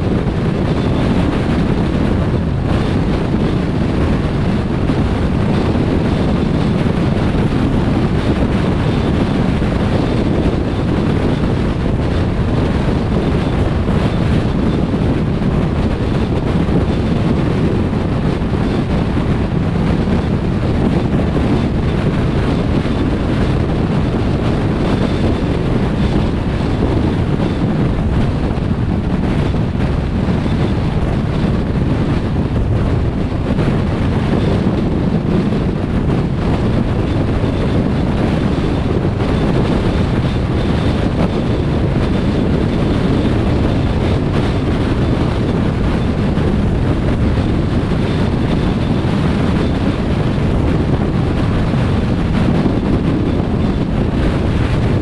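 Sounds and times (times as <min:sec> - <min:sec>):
car tyre and wind rumble: 0:00.0 - 0:55.0.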